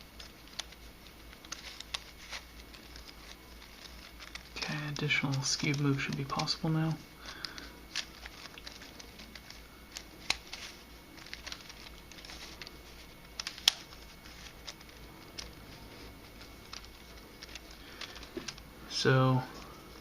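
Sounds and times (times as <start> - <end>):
puzzle pieces clicking and rubbing: 0.2 - 20.0.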